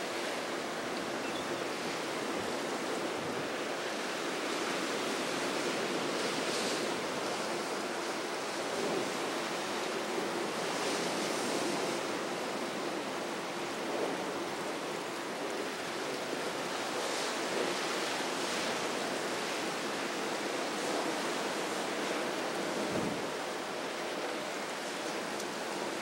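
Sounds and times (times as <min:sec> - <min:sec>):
waves breaking: 0:00.0 - 0:26.0
wind and choppy sea rushing: 0:00.0 - 0:26.0.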